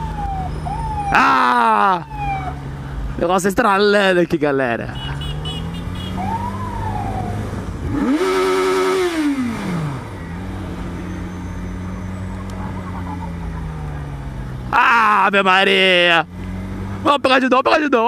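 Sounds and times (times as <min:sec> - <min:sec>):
motorcycle idling and revving: 0:00.0 - 0:18.0.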